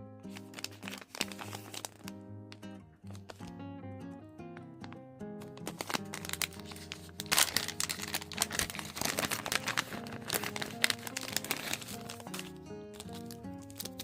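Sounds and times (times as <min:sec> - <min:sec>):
background music: 0:00.0 - 0:14.0
plastic packaging crinkling: 0:00.3 - 0:03.5, 0:04.8 - 0:14.0.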